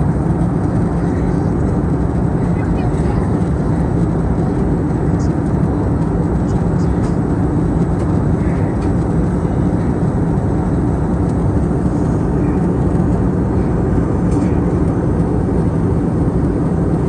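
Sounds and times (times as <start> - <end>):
jet engines and airflow rumble: 0.0 - 17.0
faint low hum: 0.3 - 17.0.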